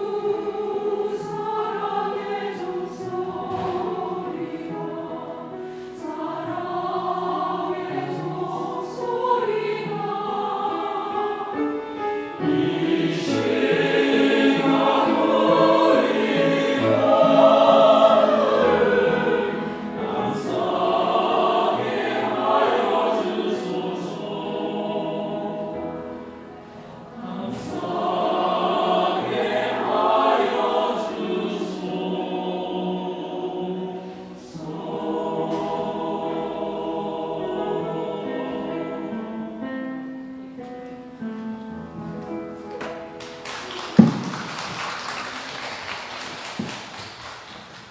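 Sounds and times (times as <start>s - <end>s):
church choir singing a hymn: 0.0s - 43.1s, 43.8s - 47.9s.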